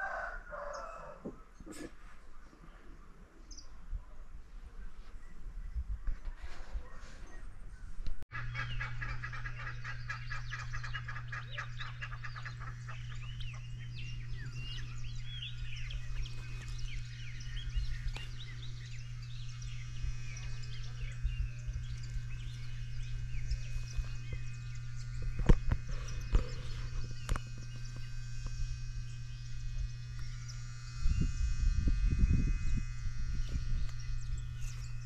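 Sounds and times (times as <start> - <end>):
birds chirping: 0.0 - 35.0
low hum: 0.0 - 35.0.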